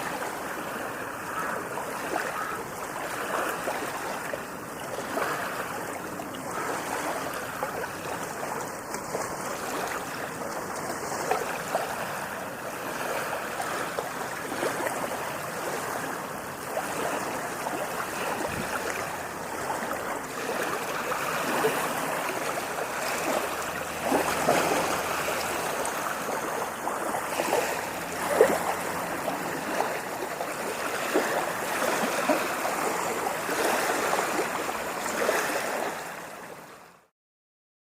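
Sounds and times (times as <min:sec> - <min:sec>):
ocean waves lapping: 0:00.0 - 0:37.0.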